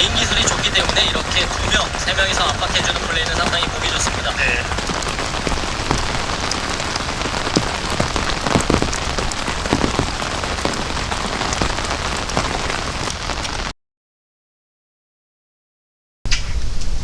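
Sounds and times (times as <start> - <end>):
heavy rain pouring: 0.0 - 13.7
raindrops tapping on shelter: 0.0 - 13.7.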